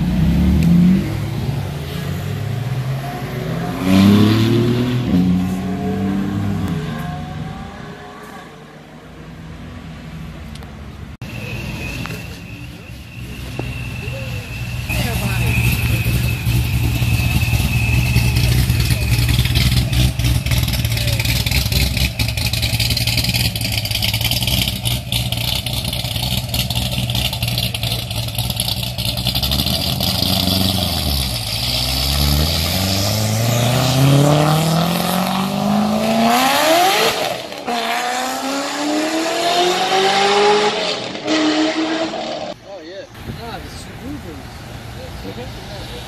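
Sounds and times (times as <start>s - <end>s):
car engine accelerating: 0.0s - 10.0s, 13.1s - 42.6s.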